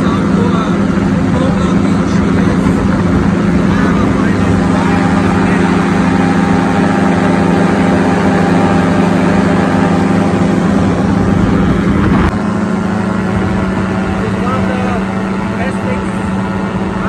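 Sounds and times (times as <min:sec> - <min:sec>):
paramotor engine droning: 0:00.0 - 0:17.0.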